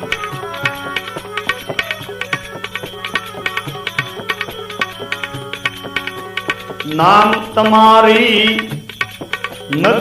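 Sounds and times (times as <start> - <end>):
held drone: 0.0 - 9.9
sustained melodic notes: 0.0 - 10.0
tabla playing steady rhythm: 0.0 - 10.0.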